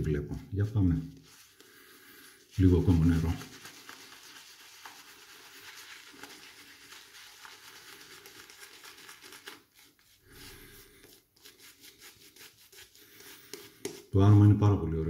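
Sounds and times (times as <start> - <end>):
shaving brush scrubbing lather: 0.7 - 14.4.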